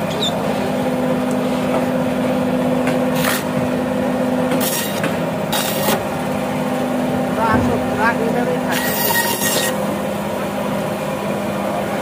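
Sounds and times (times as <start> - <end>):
electric band saw humming: 0.0 - 11.7.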